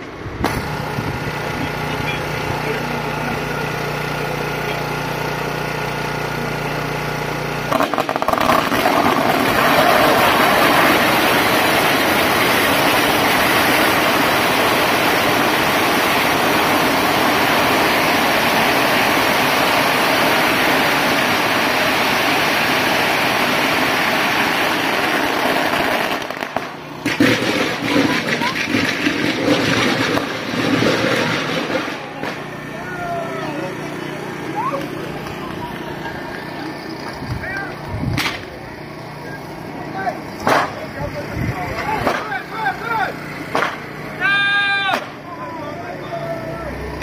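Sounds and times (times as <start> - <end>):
engine hum: 0.0 - 47.0
firecrackers crackling: 0.0 - 47.0.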